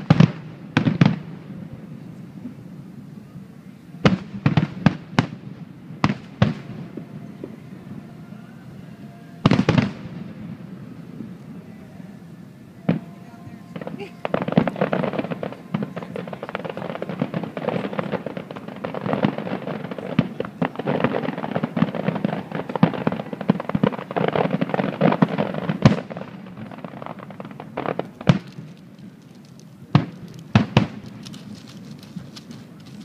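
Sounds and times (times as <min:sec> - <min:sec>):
fireworks booms: 0:00.0 - 0:02.7, 0:04.0 - 0:33.0
fireworks crackling and popping: 0:00.0 - 0:33.0.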